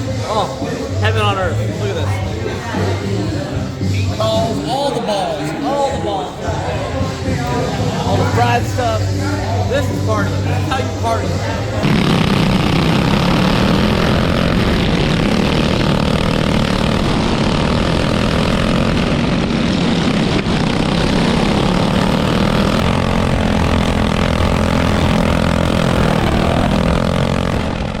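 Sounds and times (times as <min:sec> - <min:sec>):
go-kart engines droning: 0:00.0 - 0:28.0.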